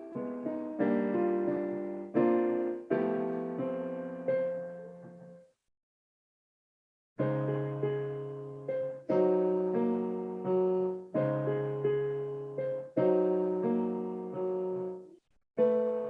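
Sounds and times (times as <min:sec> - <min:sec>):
piano block chords: 0:00.0 - 0:05.4, 0:07.2 - 0:15.0, 0:15.6 - 0:16.0.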